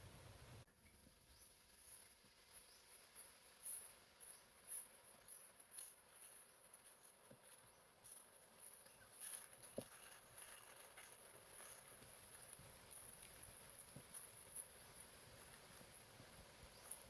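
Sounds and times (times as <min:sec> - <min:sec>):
faint insect chirping: 0:00.0 - 0:17.0.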